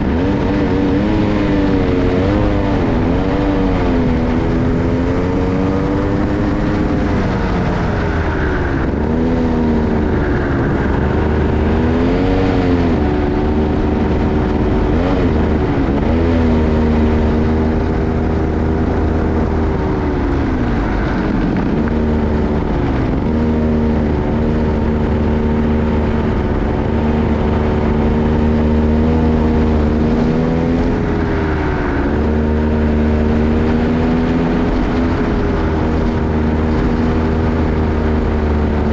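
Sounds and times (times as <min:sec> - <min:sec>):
kart engine revving: 0:00.0 - 0:38.9
wind rushing: 0:00.0 - 0:38.9.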